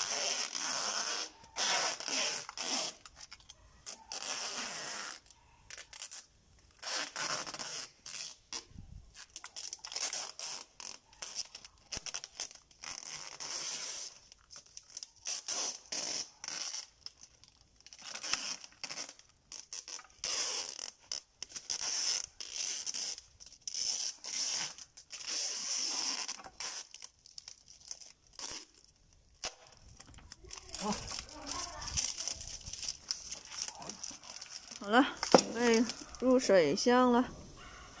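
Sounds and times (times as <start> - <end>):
packing tape screeching off roll: 0.0 - 36.5.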